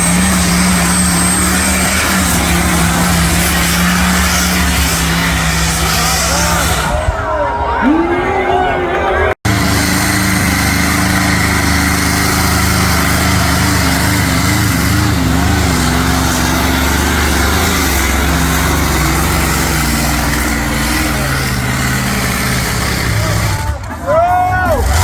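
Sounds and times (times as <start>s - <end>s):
tractor engine under load: 0.0s - 7.9s, 8.8s - 25.0s.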